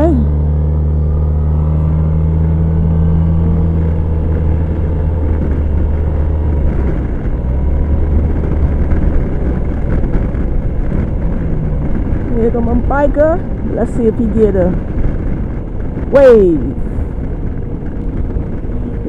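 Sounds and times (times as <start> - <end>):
scooter engine hum: 0.0 - 19.0
wind and road noise: 0.0 - 19.0.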